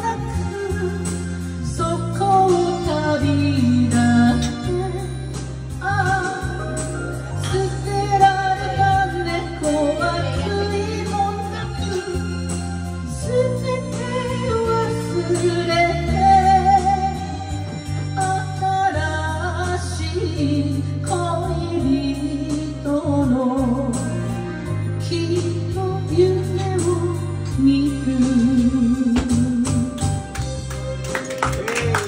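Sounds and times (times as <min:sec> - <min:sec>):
woman singing into microphone: 0:00.0 - 0:24.4, 0:25.0 - 0:30.2
karaoke backing track: 0:00.0 - 0:32.0.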